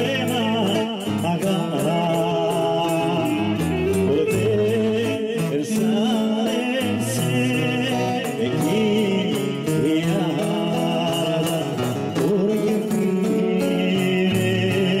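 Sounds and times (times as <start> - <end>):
folk dance music with singing: 0.0 - 15.0.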